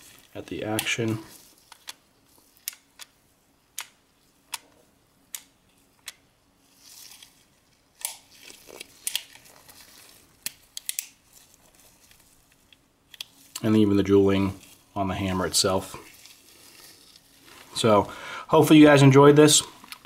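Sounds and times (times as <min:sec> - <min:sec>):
gloved hands rustling: 0:00.0 - 0:20.0.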